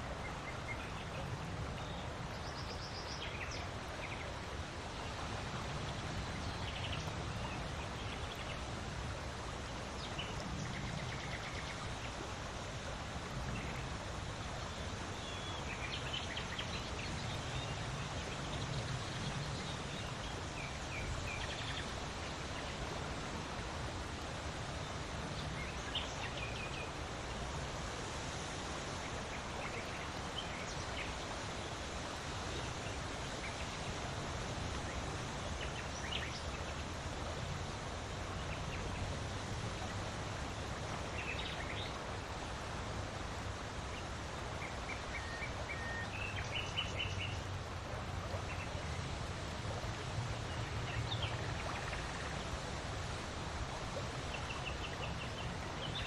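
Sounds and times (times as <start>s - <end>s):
wind: 0.0s - 56.0s.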